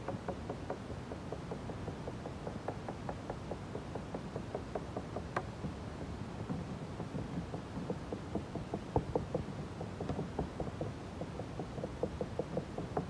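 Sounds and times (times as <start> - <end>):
wooden stick tapping on fiberglass: 0.0 - 13.0.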